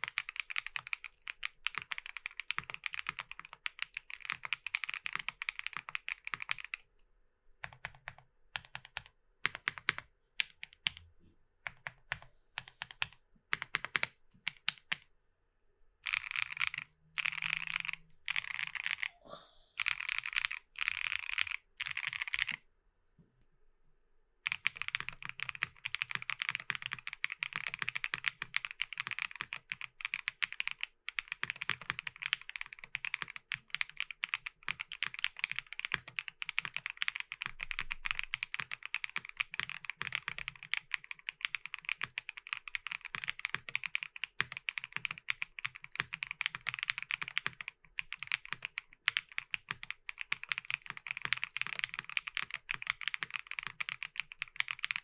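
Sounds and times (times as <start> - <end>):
mechanical keyboard typing: 0.0 - 6.9, 7.6 - 11.0, 11.6 - 15.0, 16.0 - 19.2, 19.8 - 22.6, 24.4 - 55.0.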